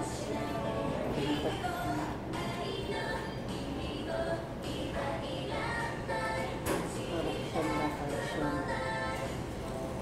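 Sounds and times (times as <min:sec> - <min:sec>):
woman singing: 0:00.0 - 0:09.5
background music: 0:00.0 - 0:10.0.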